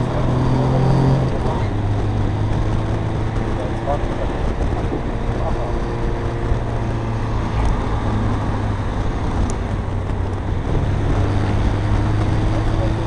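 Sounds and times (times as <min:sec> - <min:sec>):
diesel engine running: 0:00.0 - 0:13.0
tyre and wind noise: 0:00.0 - 0:13.0.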